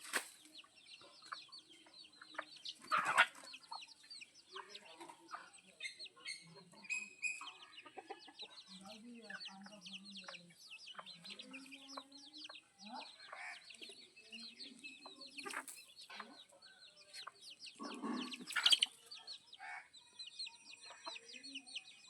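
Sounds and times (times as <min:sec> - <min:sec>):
chickens clucking: 0:00.0 - 0:22.0
chicks cheeping: 0:00.0 - 0:22.0.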